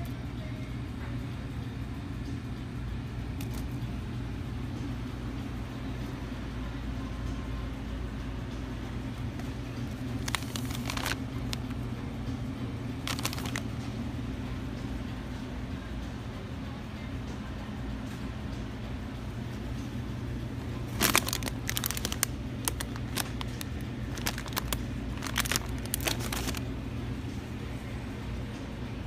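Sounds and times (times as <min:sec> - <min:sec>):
grocery store hum: 0:00.0 - 0:29.0.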